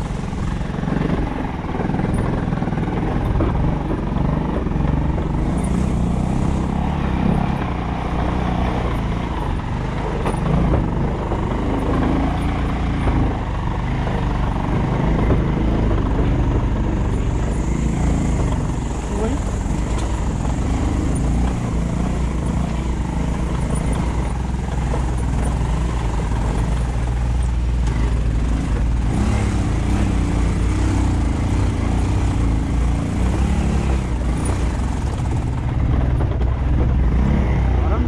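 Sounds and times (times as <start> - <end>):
road noise: 0.0 - 38.0
vehicle engine rumbling: 0.0 - 38.0.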